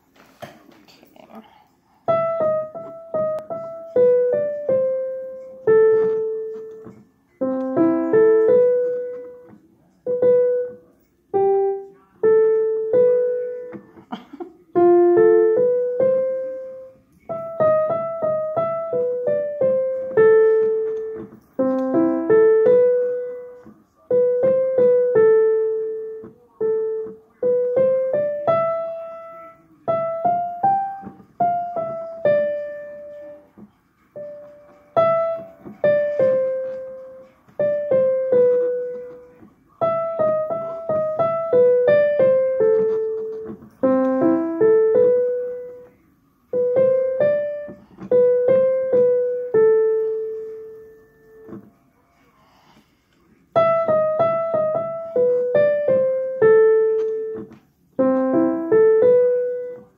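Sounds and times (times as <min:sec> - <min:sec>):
digital piano melody: 0:02.0 - 0:14.0, 0:14.7 - 0:51.7, 0:53.5 - 0:59.9.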